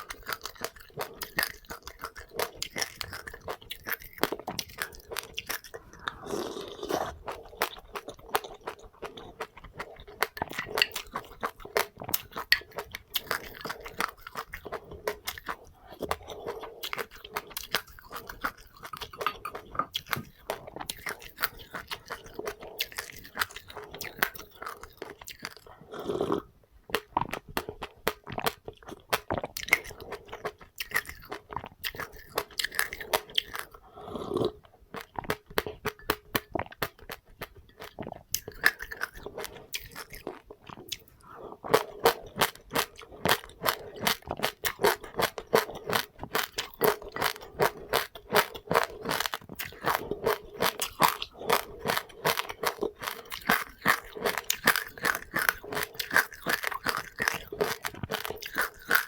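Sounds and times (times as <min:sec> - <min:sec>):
crunching and chewing seeds: 0:00.0 - 0:59.0.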